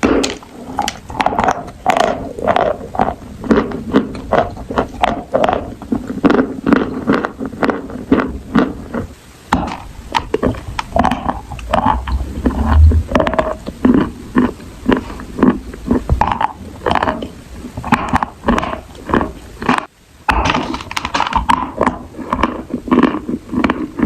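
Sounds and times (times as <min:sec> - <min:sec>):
chewing and mouth noises: 0:00.0 - 0:24.0.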